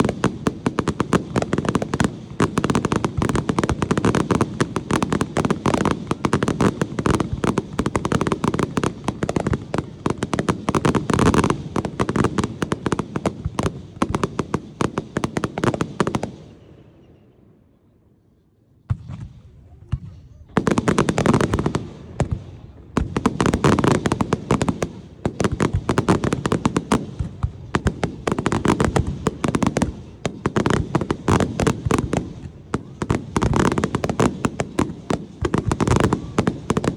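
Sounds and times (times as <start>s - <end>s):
fireworks crackling and popping: 0.0s - 16.6s, 20.5s - 36.9s.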